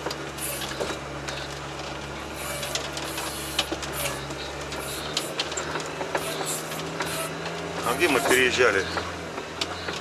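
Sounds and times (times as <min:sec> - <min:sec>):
cab clicking and rattling: 0:00.0 - 0:10.0
vehicle engine drone: 0:00.0 - 0:10.0.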